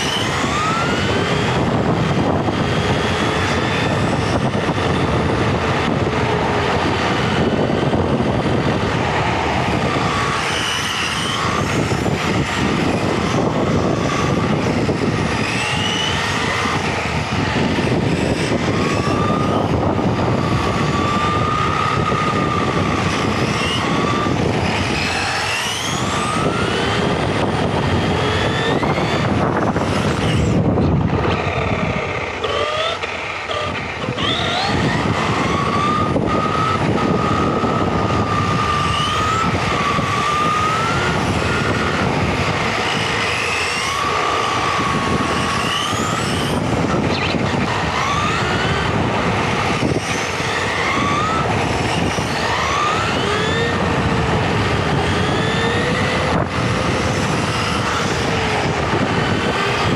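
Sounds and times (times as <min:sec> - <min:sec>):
electric motor whine: 0:00.0 - 0:59.9
tyre drivetrain and wind rush: 0:00.0 - 0:59.9.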